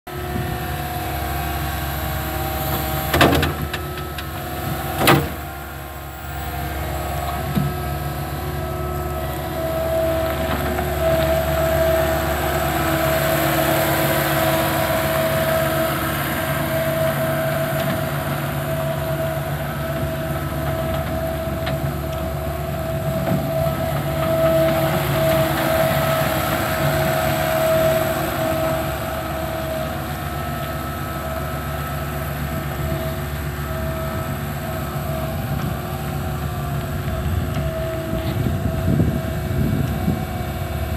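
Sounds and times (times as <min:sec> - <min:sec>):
diesel engine running: 0:00.0 - 0:40.9
machine driving on gravel: 0:00.1 - 0:40.9.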